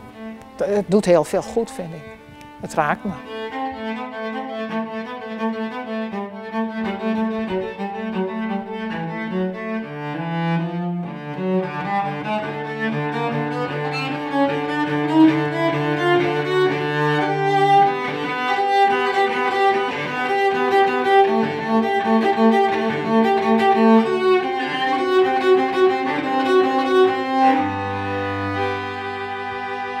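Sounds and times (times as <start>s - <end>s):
cello and violin playing slowly: 0.0s - 30.0s.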